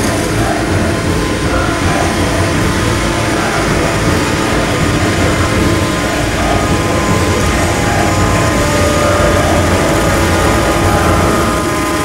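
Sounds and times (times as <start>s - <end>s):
forage harvester engine rumbling: 0.0s - 12.0s
thin steady whine: 0.0s - 12.0s.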